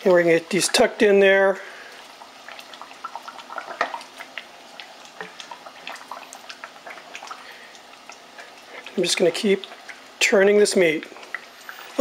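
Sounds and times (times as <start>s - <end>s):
meat frying in lard: 0.0s - 12.0s.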